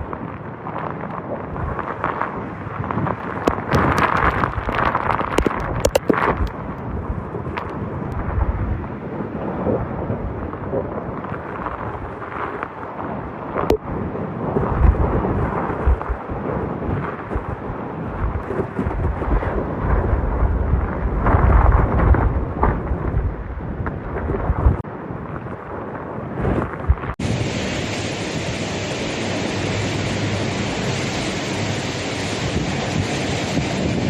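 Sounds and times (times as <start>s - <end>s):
heavy rain: 0.0s - 25.9s, 26.8s - 34.0s
wind gusts buffeting microphone: 0.0s - 34.0s.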